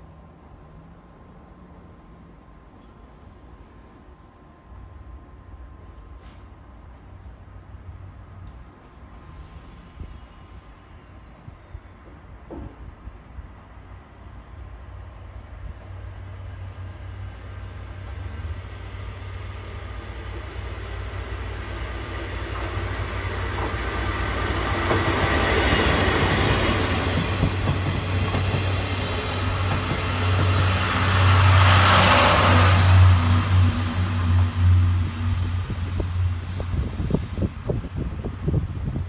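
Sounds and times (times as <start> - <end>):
diesel locomotive engine hum: 0.0 - 39.0
train wheels rumbling on rails: 5.7 - 13.9, 15.0 - 39.0.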